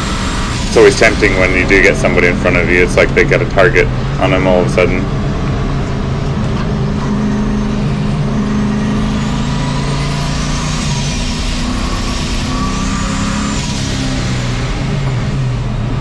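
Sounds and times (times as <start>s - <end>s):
faint high whine: 0.0s - 16.0s
truck engine running: 0.0s - 16.0s.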